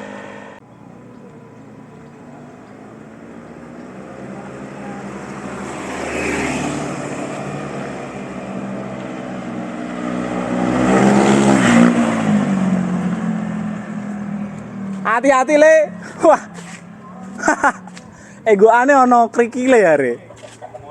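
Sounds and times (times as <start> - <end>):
scooter engine running: 0.0 - 15.2, 15.8 - 18.4.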